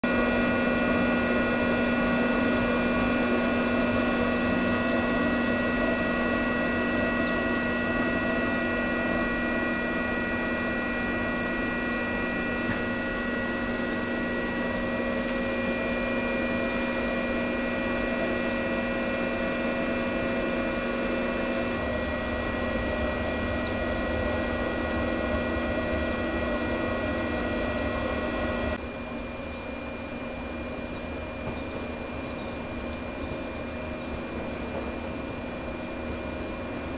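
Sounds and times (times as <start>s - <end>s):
electric train hum and whine: 0.0s - 36.9s.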